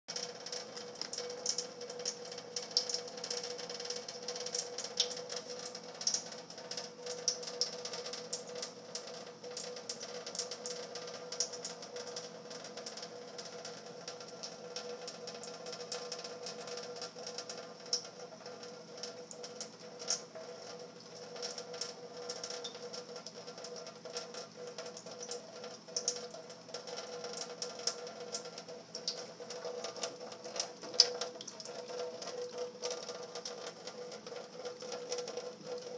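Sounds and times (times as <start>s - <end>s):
tap water running into sink: 0.1s - 35.9s.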